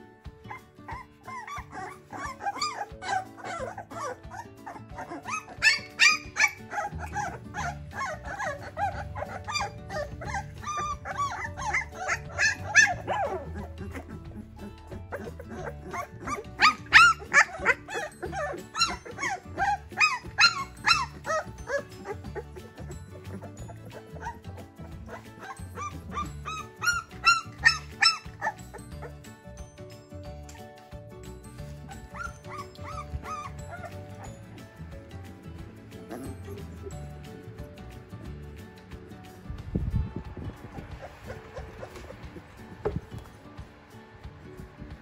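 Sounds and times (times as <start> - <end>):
background music: 0.0 - 45.0
puppies squeaking and whimpering: 0.3 - 39.0, 40.4 - 43.5.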